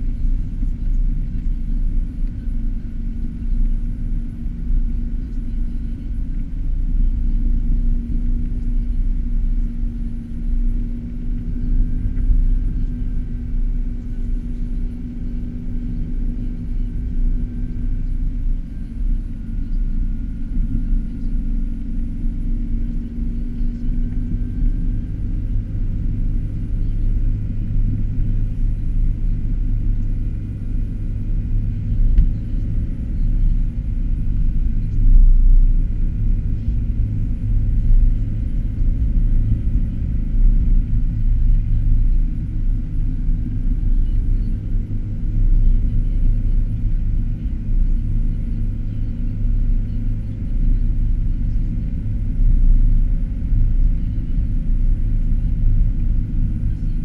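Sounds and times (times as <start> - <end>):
car cabin engine and tyre rumble: 0.0 - 57.0
steady hum: 0.0 - 57.0.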